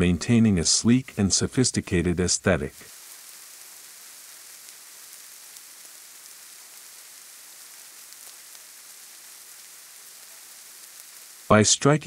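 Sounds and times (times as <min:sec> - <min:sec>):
steady soft hiss: 0:00.0 - 0:12.0.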